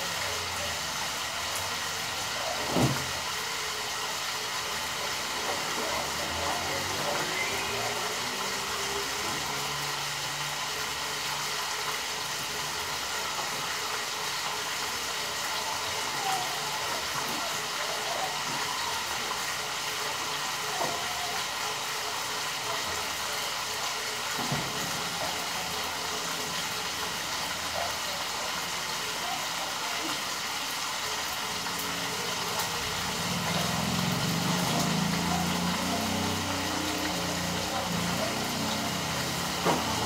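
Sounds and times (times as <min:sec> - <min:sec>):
meat sizzling in a skillet: 0:00.0 - 0:40.0.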